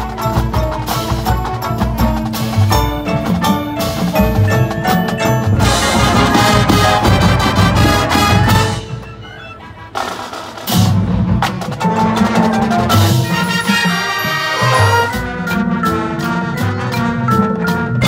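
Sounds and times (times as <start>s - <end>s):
mallet percussion and drums: 0.0s - 18.0s
marching band playing: 0.0s - 18.0s.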